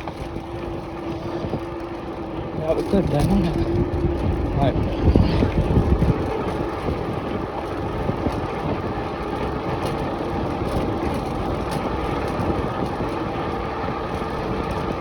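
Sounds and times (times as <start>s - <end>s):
bike tyre noise: 0.0s - 15.0s
wind rumble: 0.0s - 15.0s.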